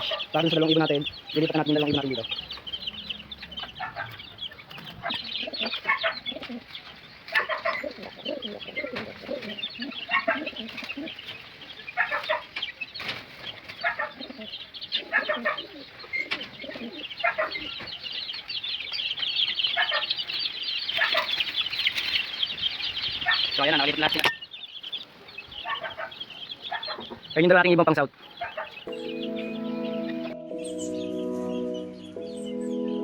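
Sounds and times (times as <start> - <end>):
chickens clucking: 0.0 - 30.4.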